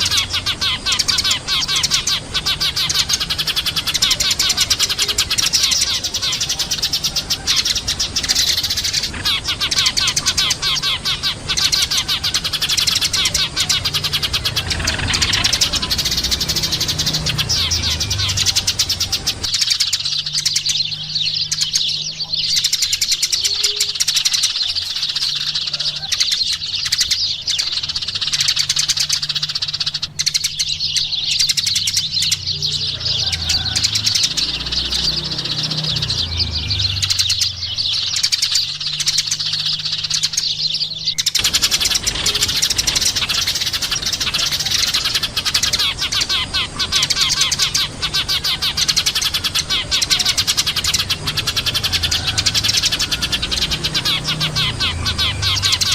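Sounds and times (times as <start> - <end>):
sparrows chirping: 0.0 - 55.9.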